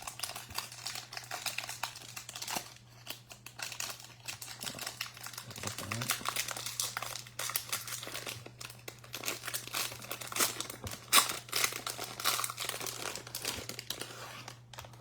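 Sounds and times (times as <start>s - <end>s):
foil wrapper tearing and crinkling: 0.0s - 15.0s.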